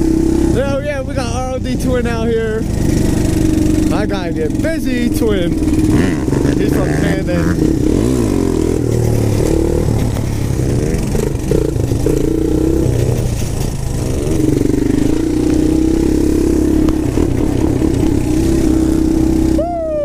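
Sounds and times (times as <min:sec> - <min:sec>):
quad engine revving: 0:00.0 - 0:20.0.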